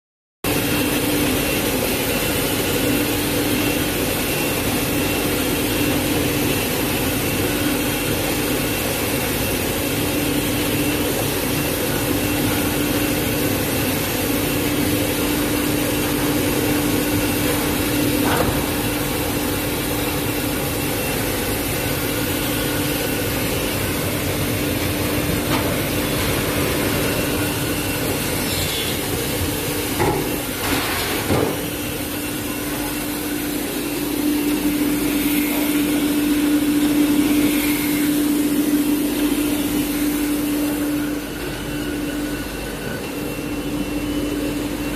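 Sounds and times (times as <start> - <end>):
machine hum: 0.5 - 44.9.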